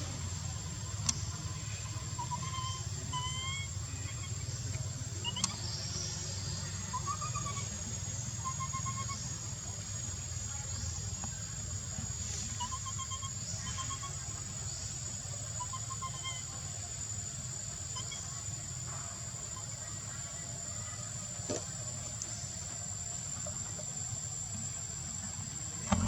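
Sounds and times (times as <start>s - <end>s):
faint chirping calls: 0.0s - 26.0s.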